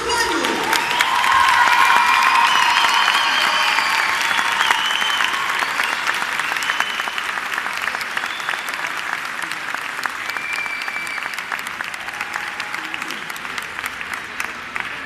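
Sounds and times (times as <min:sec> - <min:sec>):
audience applauding: 0:00.1 - 0:15.0.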